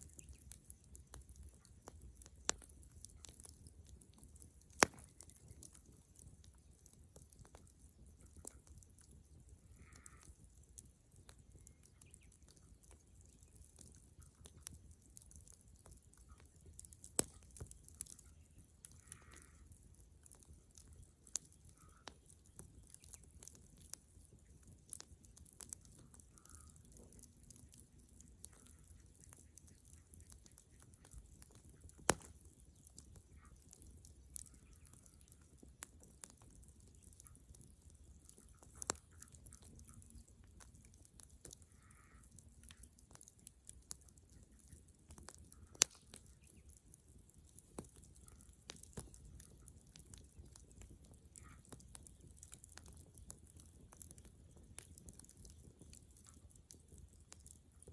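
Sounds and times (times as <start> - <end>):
bonfire crackling and popping: 0.0 - 57.9.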